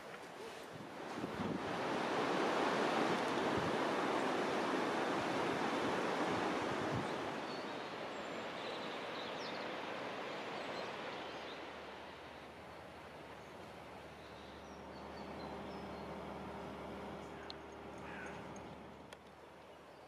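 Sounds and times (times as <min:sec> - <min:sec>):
river rushing: 0:00.0 - 0:19.6.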